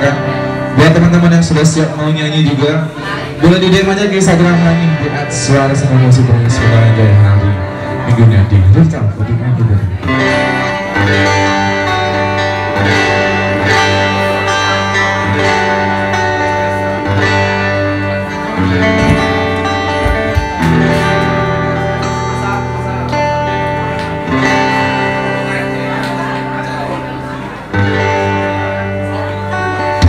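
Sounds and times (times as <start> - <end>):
clean electric guitar: 0.0 - 30.0
live band playing: 0.0 - 30.0.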